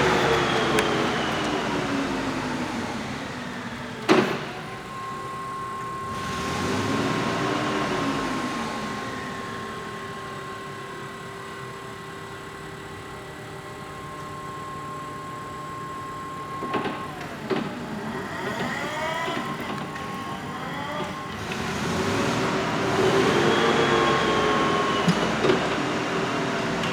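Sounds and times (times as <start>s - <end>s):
electric motors whining: 0.0s - 11.9s, 13.2s - 26.9s.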